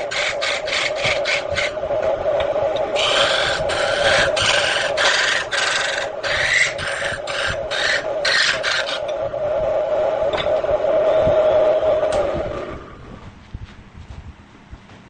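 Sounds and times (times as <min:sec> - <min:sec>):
lathe motor hum: 0:00.0 - 0:13.3
tool scraping spinning wood: 0:00.0 - 0:13.4.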